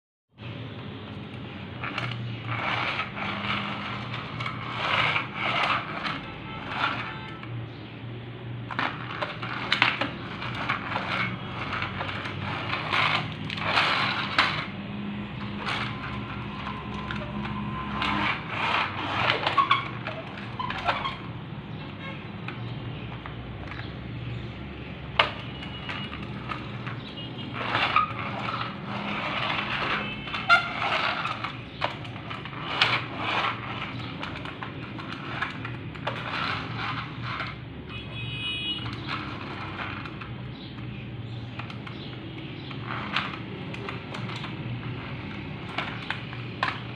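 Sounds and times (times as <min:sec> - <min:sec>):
toy truck wheels rolling: 0:00.4 - 0:07.8, 0:08.5 - 0:46.9.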